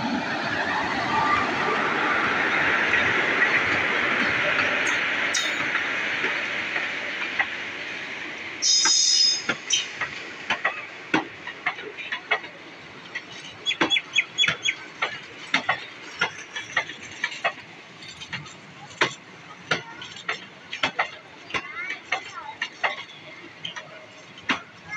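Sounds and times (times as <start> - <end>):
train coaches rolling on rails: 0.0 - 24.9
wheels clacking on track: 0.1 - 24.9.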